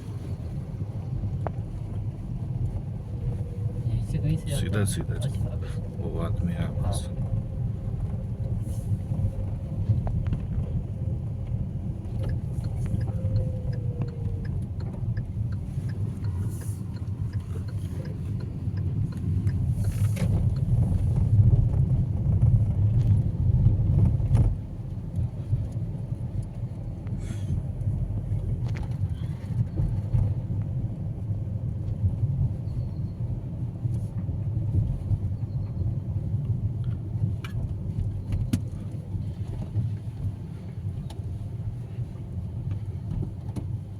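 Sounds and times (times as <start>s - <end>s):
motor vehicle rumbling: 0.0s - 43.9s.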